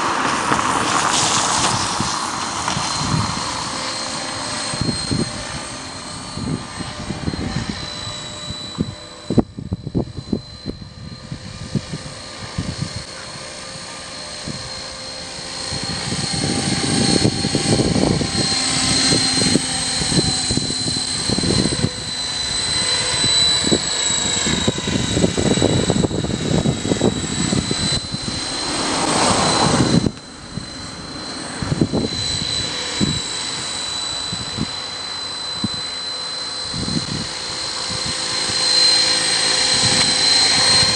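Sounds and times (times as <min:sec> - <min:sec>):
high-pitched motor whine: 0:00.0 - 0:40.9
rotor whoosh: 0:00.0 - 0:40.9.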